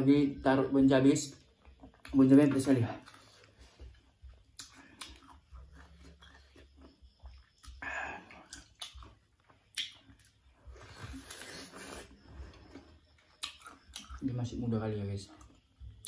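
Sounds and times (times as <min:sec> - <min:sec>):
crunchy chewing: 0:01.1 - 0:16.0.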